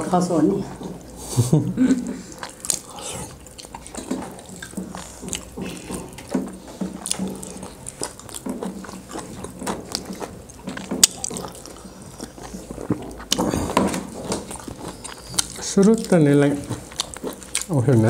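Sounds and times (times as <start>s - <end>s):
wet chewing and lip-smacking: 0.8s - 18.0s
food squished by hand: 2.2s - 17.8s.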